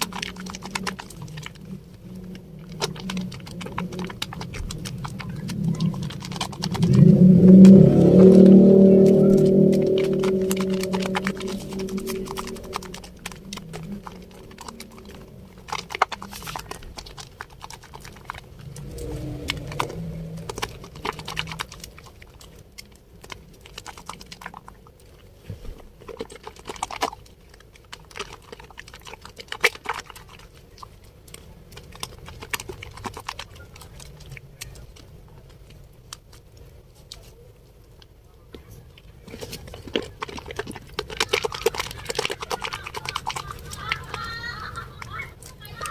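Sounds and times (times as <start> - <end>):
soap lathering wet squishing: 0.0 - 45.9.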